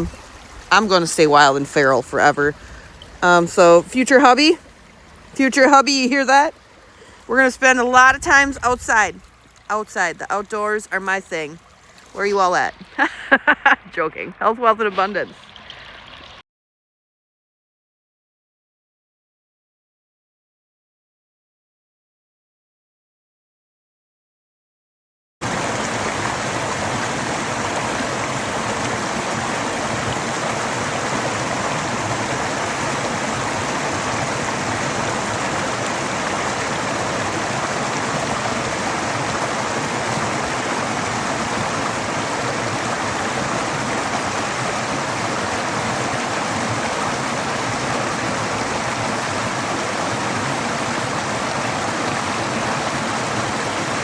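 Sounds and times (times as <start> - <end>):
running water rushing: 0.0 - 16.4, 25.4 - 54.0.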